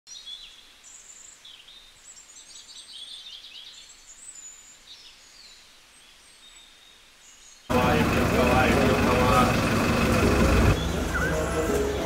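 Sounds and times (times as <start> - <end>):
faint outdoor hiss: 0.1 - 12.0
small birds chirping: 0.1 - 12.0.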